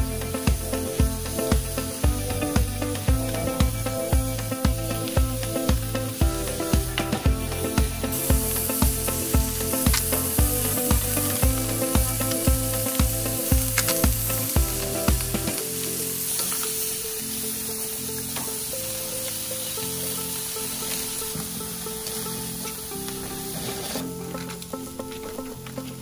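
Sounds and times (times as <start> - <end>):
background music with beat: 0.0 - 26.0
food sizzling on a hotplate: 0.0 - 26.0.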